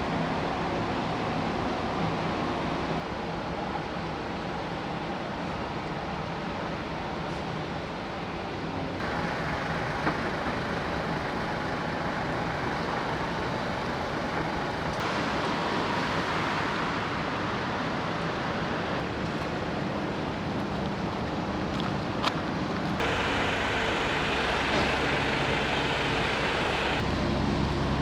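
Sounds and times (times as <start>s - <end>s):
rumbling hissing machinery noise: 0.0s - 28.0s.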